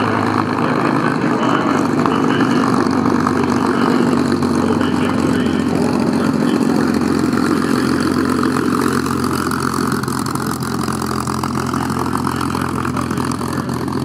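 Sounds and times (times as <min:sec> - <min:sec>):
propeller aircraft engine rumbling: 0:00.0 - 0:14.0.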